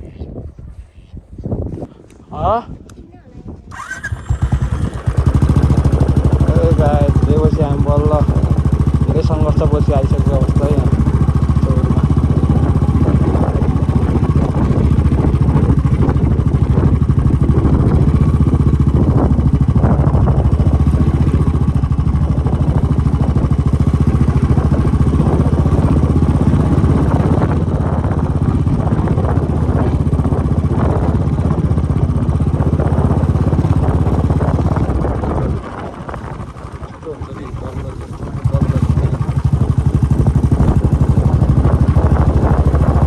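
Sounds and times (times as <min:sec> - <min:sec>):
vehicle engine running: 0:03.7 - 0:43.0.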